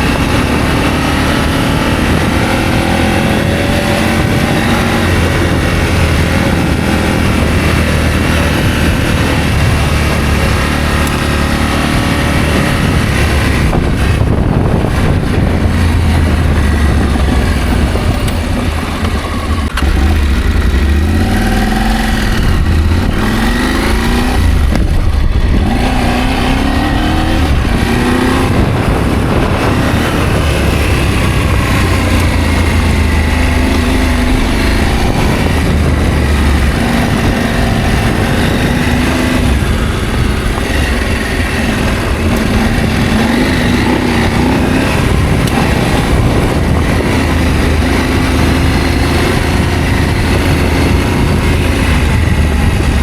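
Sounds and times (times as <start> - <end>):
low rumble of riding noise: 0.0 - 53.0
motorcycle engine revving: 0.0 - 53.0.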